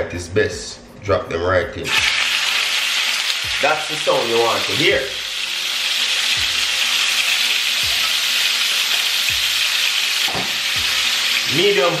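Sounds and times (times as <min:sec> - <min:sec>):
chicken sizzling in frying pan: 0:01.9 - 0:12.0.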